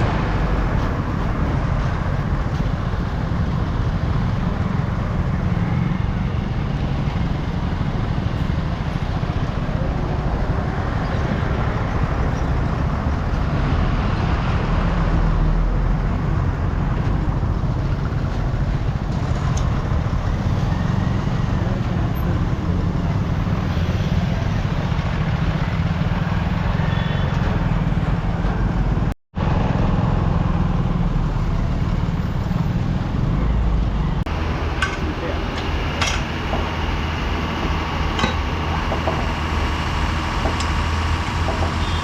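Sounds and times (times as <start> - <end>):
road vehicle rumble: 0.0 - 42.0.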